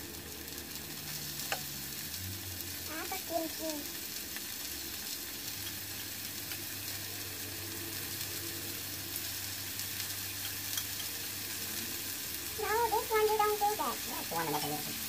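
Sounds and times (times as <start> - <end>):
food sizzling on a grill pan: 0.0 - 15.0.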